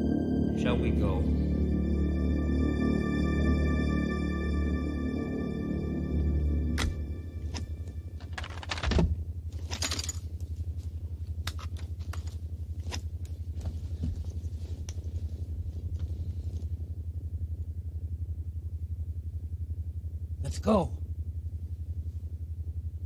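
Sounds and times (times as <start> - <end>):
low pulsing hum: 0.0 - 23.0.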